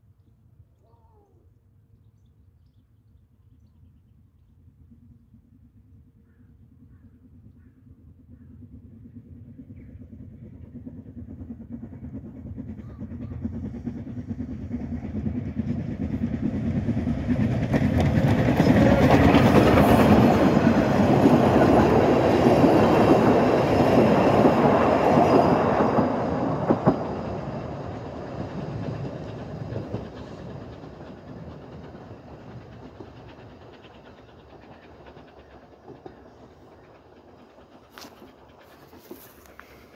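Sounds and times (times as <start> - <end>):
steam train passing: 7.3 - 39.9.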